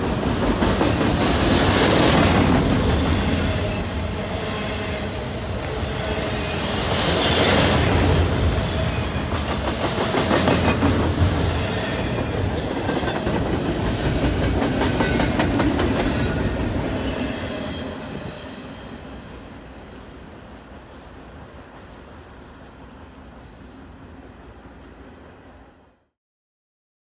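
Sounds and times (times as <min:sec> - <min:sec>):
steel wheels rumbling on rail: 0:00.0 - 0:23.3.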